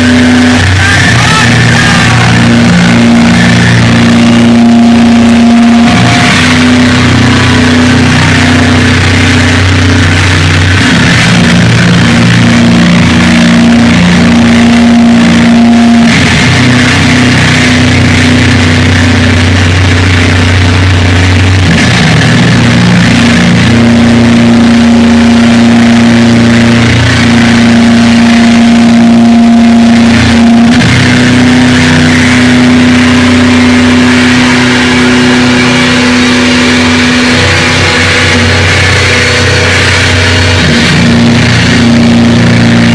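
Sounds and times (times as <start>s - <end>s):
heavy rock band playing: 0.0s - 42.9s.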